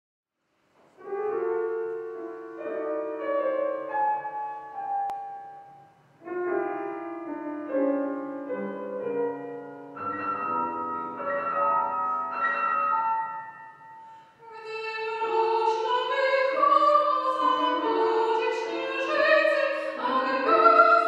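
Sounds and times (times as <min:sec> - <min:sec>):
grand piano playing chords: 0:00.8 - 0:21.0.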